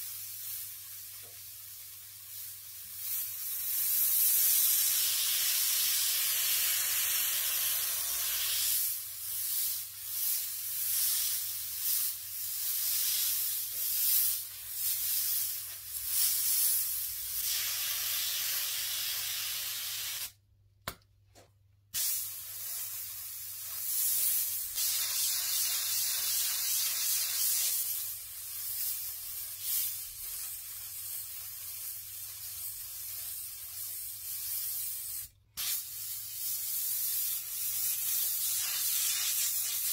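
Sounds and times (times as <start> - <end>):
airbrush hissing: 2.3 - 20.4, 22.0 - 39.9.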